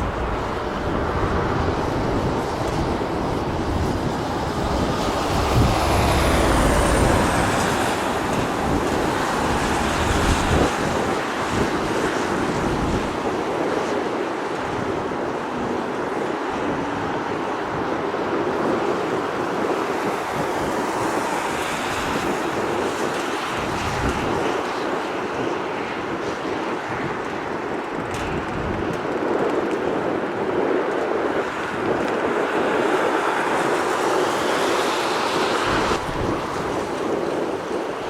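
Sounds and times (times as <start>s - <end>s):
jet engines rushing: 0.0s - 29.2s, 30.0s - 38.0s
wind buffeting microphone: 0.0s - 38.0s.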